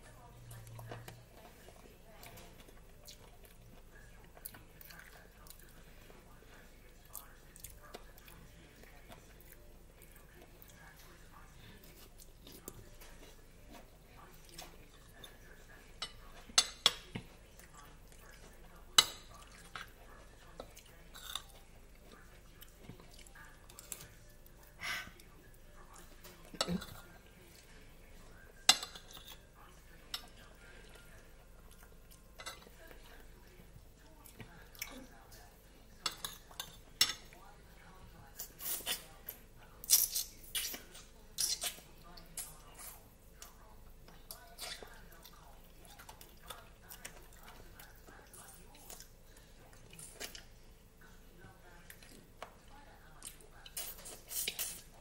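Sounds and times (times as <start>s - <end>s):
faint chewing: 0.0s - 55.0s.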